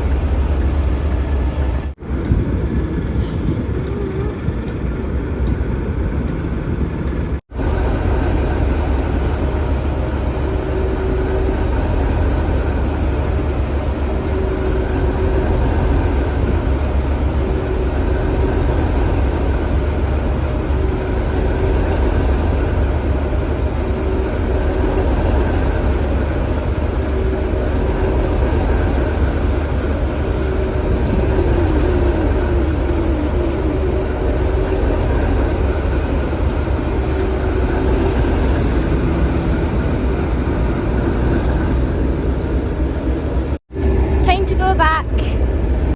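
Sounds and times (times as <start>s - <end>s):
diesel train engine rumble: 0.0s - 45.9s.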